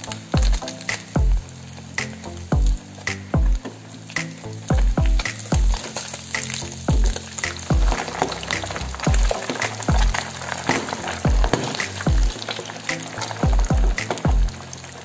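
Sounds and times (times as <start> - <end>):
background music with kick drum: 0.0 - 14.8
fish deep-frying in hot oil: 0.0 - 15.0.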